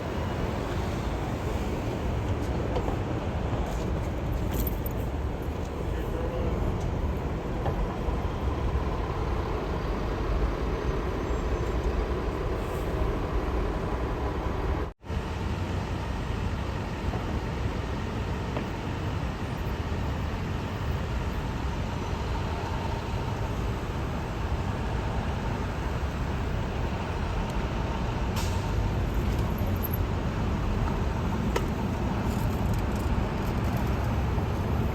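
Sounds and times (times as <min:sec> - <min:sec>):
city traffic rumble: 0:00.0 - 0:34.9.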